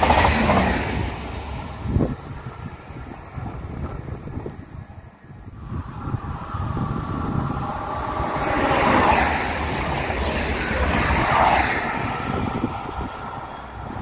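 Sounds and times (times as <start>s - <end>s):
train wheel-on-rail rumble: 0.0s - 14.0s.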